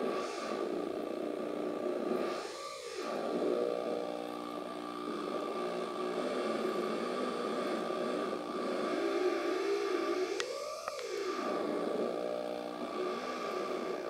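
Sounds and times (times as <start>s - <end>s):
theremin drone with wavering tones: 0.0s - 14.0s.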